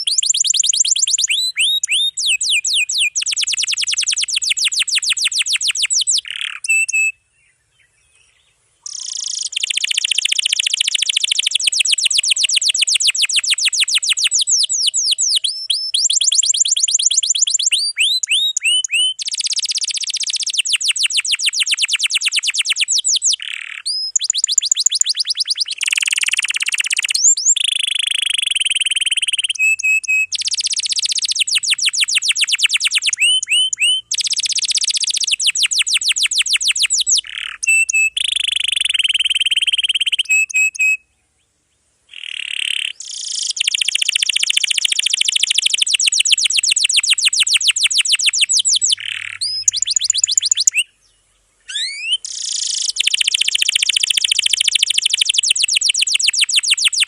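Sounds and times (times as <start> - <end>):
canary singing trills: 0.0 - 41.1, 42.1 - 57.0.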